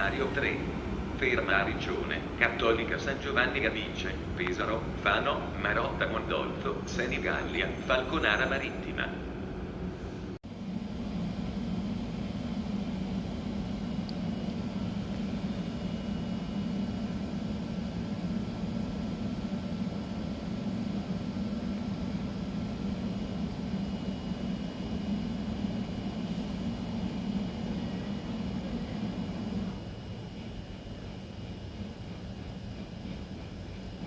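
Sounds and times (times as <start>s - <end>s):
train low hum: 0.0s - 34.0s.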